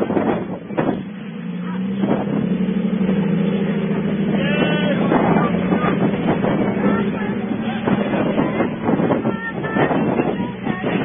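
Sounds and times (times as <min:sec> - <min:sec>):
engine pulling under load: 0:00.0 - 0:11.0
voices: 0:00.0 - 0:11.0
wind noise: 0:00.0 - 0:11.0.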